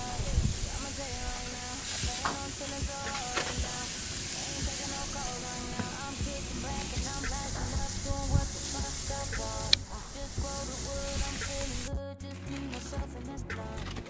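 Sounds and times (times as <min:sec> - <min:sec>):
background music: 0:00.0 - 0:14.0
steaks sizzling on grill: 0:00.1 - 0:11.9.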